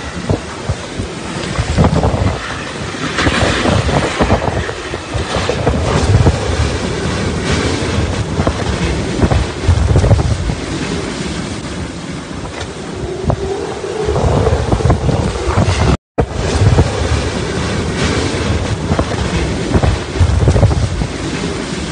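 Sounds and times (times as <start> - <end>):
heavy wind-driven rain: 0.0 - 21.9
hurricane-force wind gusting: 0.0 - 21.9.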